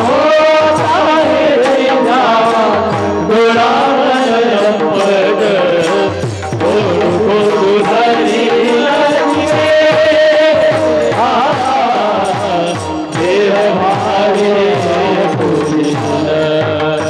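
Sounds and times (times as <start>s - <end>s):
instrumental accompaniment: 0.0s - 17.0s
person singing devotional song: 0.0s - 17.0s.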